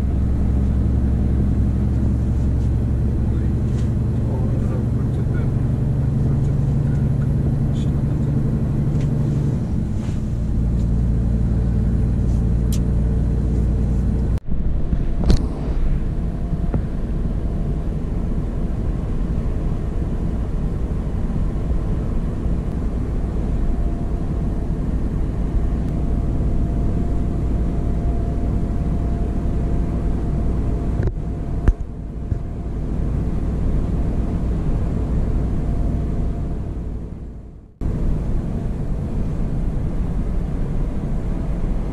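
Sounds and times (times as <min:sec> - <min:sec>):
truck diesel engine drone: 0:00.0 - 0:41.9.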